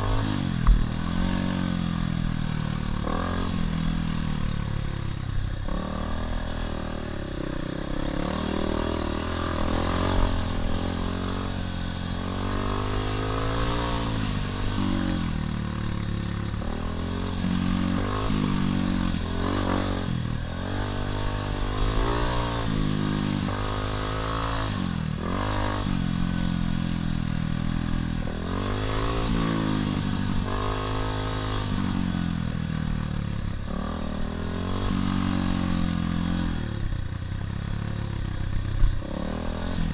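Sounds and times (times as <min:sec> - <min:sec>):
dirt bike engine revving: 0:00.0 - 0:04.4, 0:05.6 - 0:32.3, 0:39.0 - 0:39.9.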